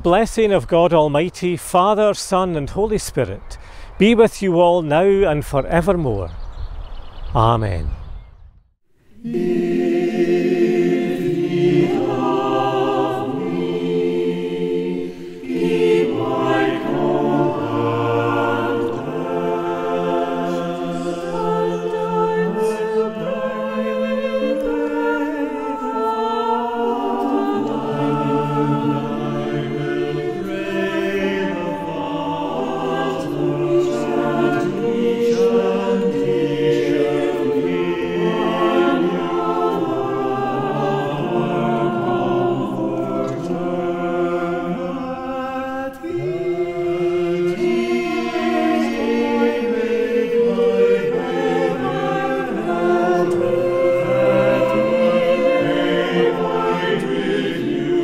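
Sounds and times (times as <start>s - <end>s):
church choir singing: 9.0s - 58.0s.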